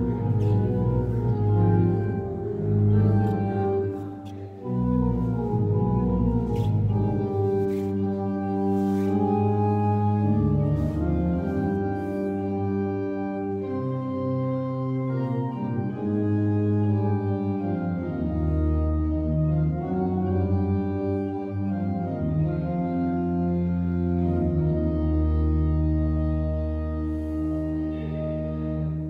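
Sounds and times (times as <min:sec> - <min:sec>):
church organ chords: 0:00.0 - 0:29.0.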